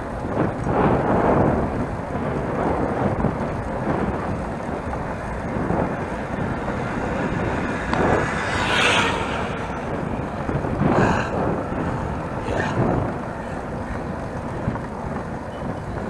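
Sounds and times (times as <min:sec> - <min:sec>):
bicycle tyre rolling on asphalt: 0:00.0 - 0:16.0
wind buffeting the microphone: 0:00.0 - 0:16.0.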